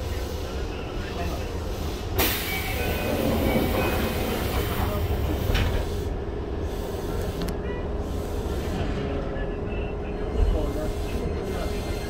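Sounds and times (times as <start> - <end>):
train equipment rumble and hum: 0.0 - 12.0.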